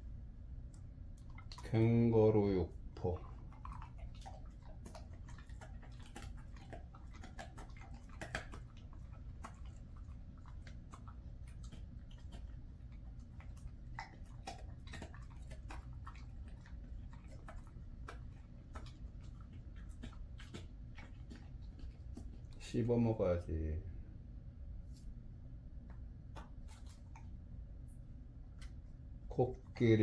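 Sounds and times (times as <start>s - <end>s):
low room hum: 0.0s - 30.0s
dog chewing treat: 0.6s - 22.8s, 26.3s - 30.0s.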